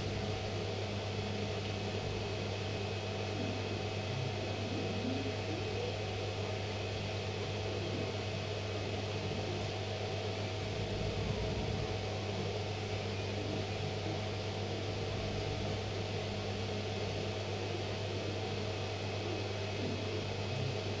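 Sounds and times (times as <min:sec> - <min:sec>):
mill motor hum and hiss: 0:00.0 - 0:21.0.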